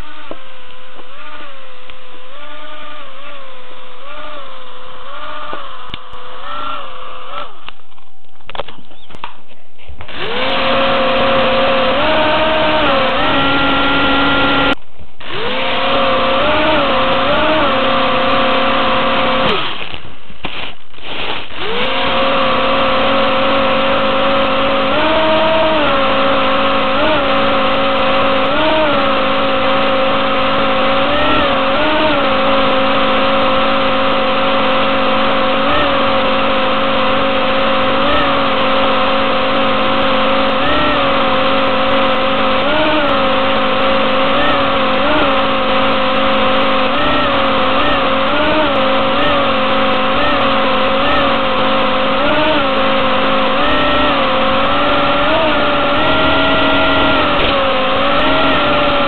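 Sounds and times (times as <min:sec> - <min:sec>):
hovercraft motor droning: 0:00.0 - 0:08.0, 0:10.0 - 0:19.9, 0:21.0 - 0:59.0.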